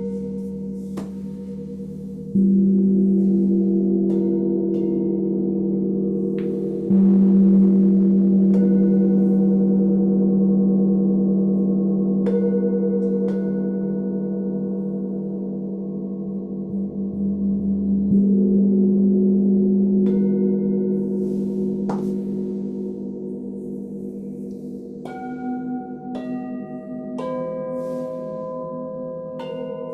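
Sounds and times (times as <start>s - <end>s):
deep singing bowl hum: 0.0s - 29.9s.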